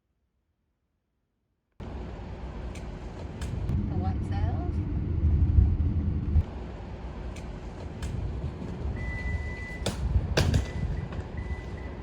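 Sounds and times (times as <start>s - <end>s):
steady low rumble: 1.8s - 12.0s.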